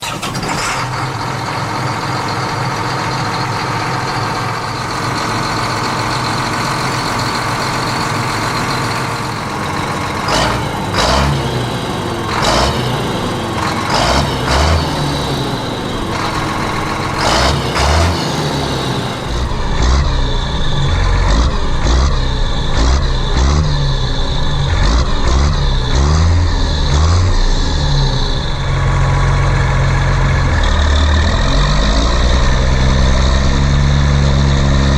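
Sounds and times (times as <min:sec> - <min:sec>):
heavy vehicle engine labouring: 0:00.0 - 0:34.9
chugging low rumble: 0:00.9 - 0:34.9.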